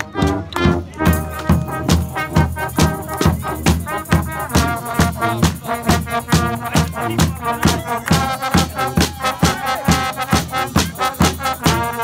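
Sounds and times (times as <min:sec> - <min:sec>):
trumpet: 0:00.0 - 0:12.0
bass drum and cymbal beat: 0:00.2 - 0:12.0.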